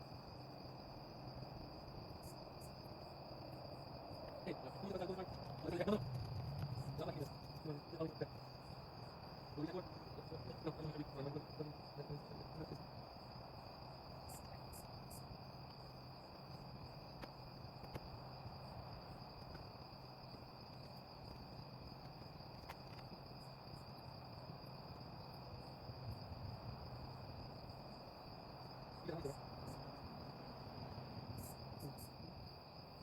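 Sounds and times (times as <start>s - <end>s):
crickets trilling: 0.0s - 33.0s
faint low hum: 0.0s - 33.0s.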